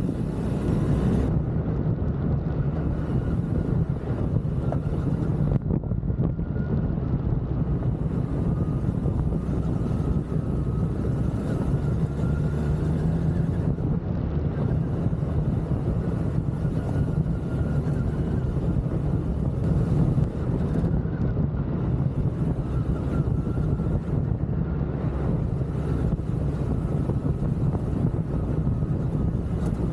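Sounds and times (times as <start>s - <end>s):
motorcycle engine running: 0.0s - 29.9s
wind rushing over microphone: 0.0s - 29.9s.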